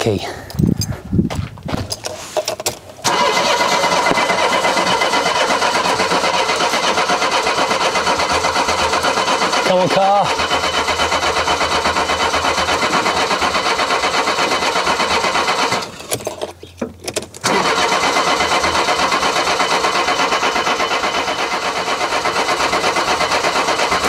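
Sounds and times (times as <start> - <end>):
car engine cranking: 1.8 - 24.0.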